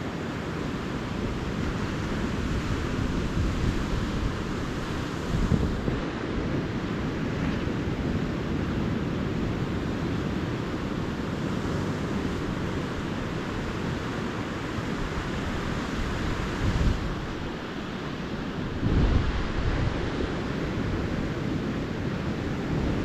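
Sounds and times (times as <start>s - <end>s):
ocean surf washing onto beach: 0.0s - 23.0s
wind rumbling on microphone: 0.0s - 23.0s.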